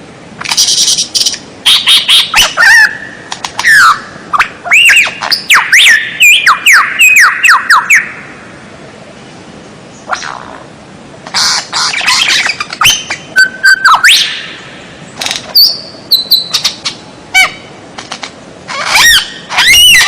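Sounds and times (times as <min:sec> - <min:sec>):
songbird singing: 0:00.4 - 0:20.0.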